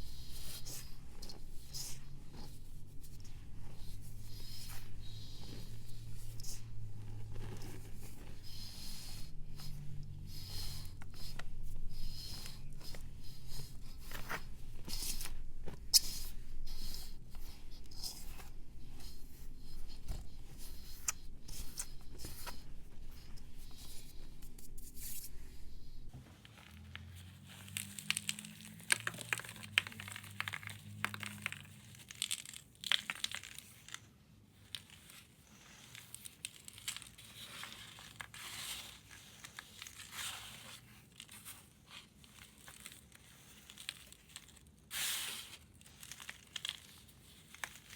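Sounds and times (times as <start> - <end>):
intermittent crunching and scraping: 0.0 - 47.9.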